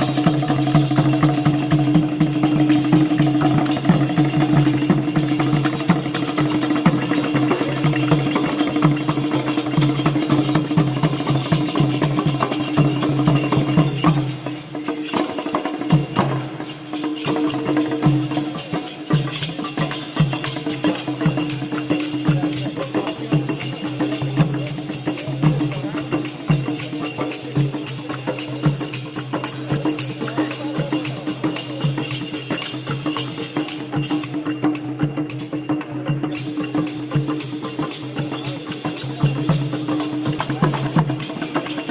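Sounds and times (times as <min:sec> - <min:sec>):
regular percussion beat: 0:00.0 - 0:41.9.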